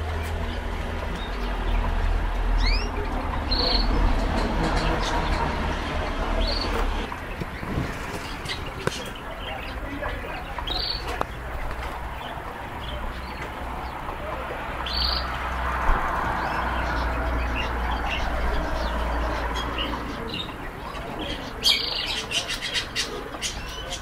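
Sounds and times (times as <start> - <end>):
canaries chirping: 0.0 - 24.0.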